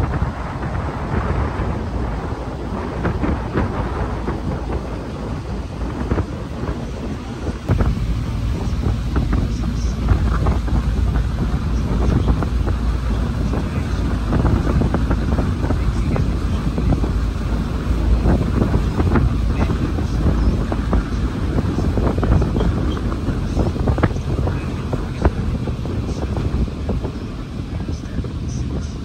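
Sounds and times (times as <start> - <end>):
boat engine rumble: 0.0 - 29.0
water rushing along hull: 0.0 - 29.0
wind buffeting microphone: 0.0 - 29.0.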